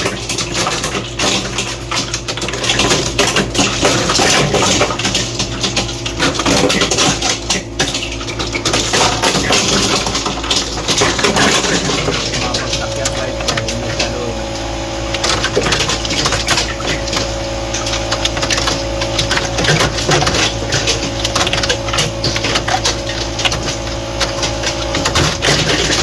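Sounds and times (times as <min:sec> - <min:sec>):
ice cubes clattering into bin: 0:00.0 - 0:14.4, 0:15.1 - 0:26.0
ice machine low hum: 0:00.0 - 0:26.0.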